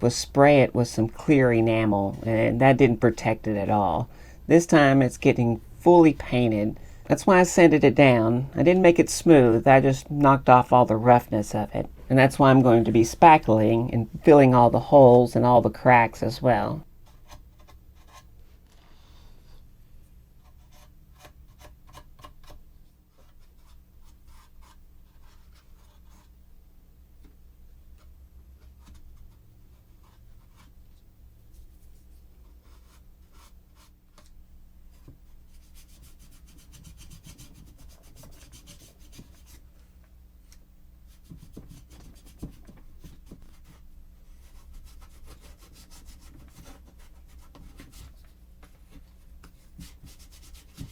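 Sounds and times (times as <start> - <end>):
low steady hum: 0.0 - 50.9.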